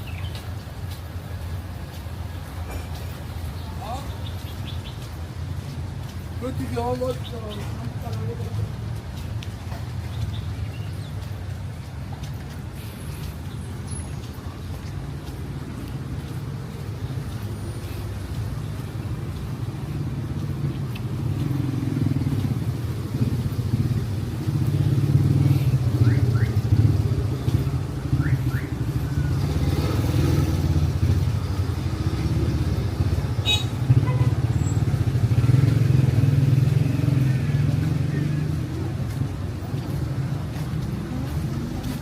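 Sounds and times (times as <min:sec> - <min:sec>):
street traffic engine rumble: 0:00.0 - 0:42.0.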